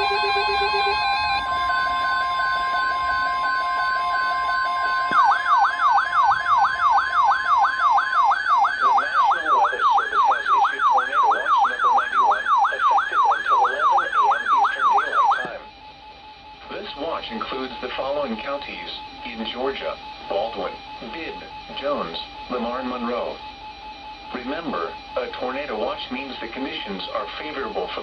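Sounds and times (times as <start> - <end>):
siren-like electronic yelp: 0.0 - 28.0.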